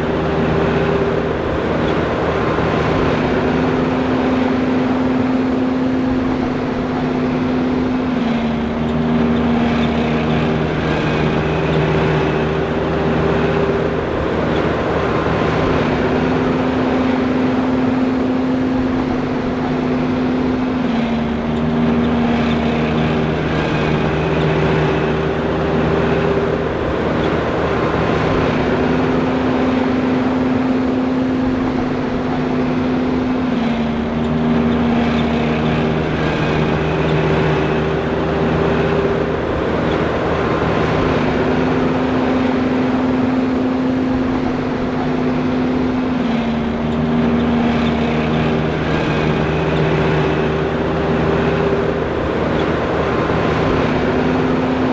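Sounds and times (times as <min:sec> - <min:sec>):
forage harvester droning: 0:00.0 - 0:54.9.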